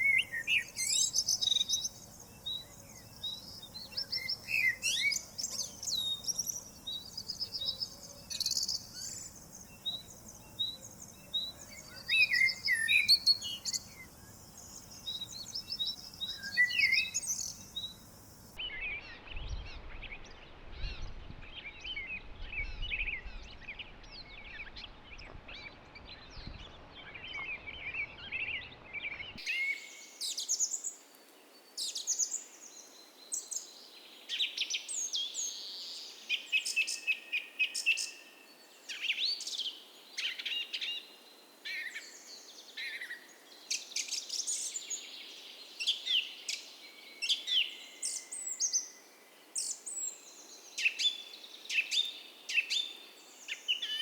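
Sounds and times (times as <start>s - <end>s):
wild birds chirping and singing: 0.0s - 54.0s.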